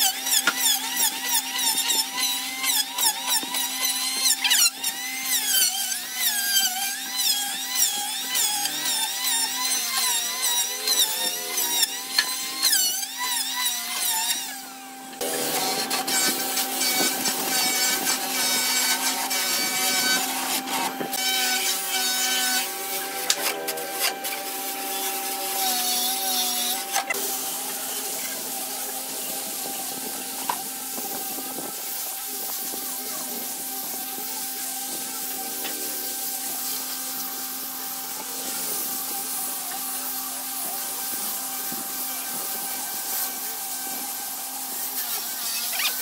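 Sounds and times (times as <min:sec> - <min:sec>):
angle grinder sanding wood: 0:00.0 - 0:46.0
electric planer shaving wood: 0:00.0 - 0:46.0
rotary wheel scrubbing wood: 0:00.0 - 0:46.0.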